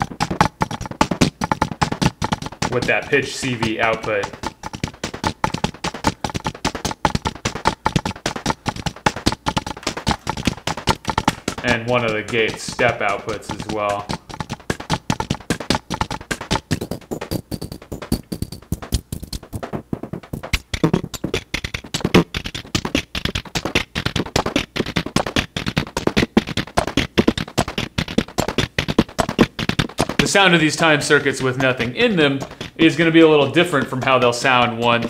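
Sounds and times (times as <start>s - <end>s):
synthesizer percussive clicks and ticks: 0.0s - 35.0s.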